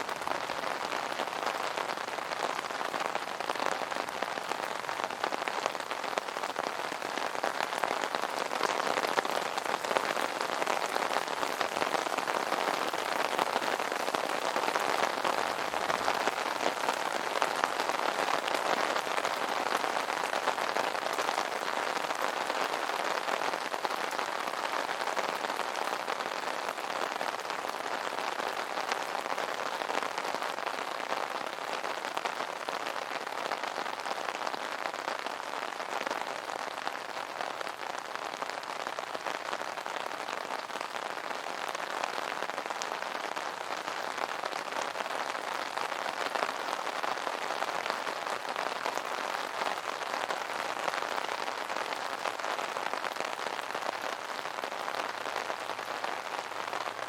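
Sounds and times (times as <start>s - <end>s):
rain pattering on umbrella: 0.0s - 57.0s.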